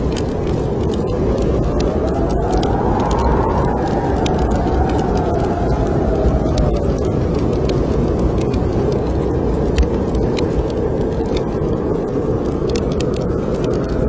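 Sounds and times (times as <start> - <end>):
wind roaring: 0.0 - 14.0
wood fire crackling: 0.0 - 14.0.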